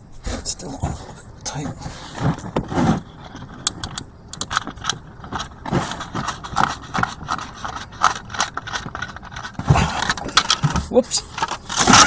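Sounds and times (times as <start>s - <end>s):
plastic bottle scraping: 0.0s - 12.0s.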